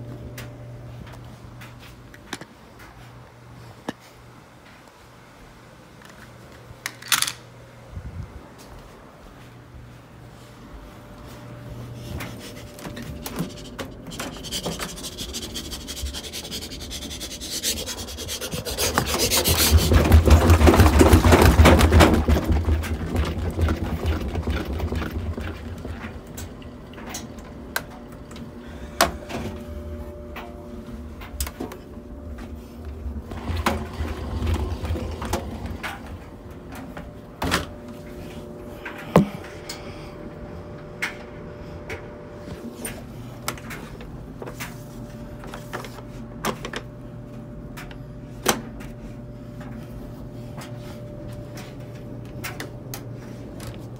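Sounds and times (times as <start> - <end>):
washing machine drum whirring: 9.1 - 53.9.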